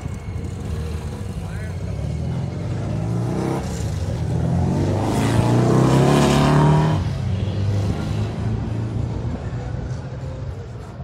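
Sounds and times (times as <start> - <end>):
low rumble of engines: 0.0 - 11.0
car engine accelerating: 0.5 - 9.4.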